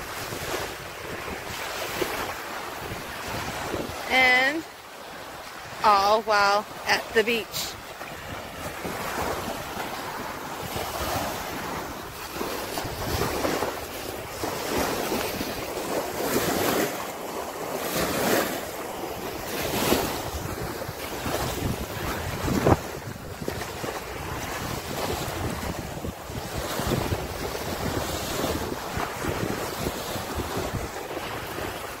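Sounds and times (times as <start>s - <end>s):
wind buffeting microphone: 0.0s - 4.5s, 7.8s - 32.0s
small waves washing on beach: 0.0s - 32.0s.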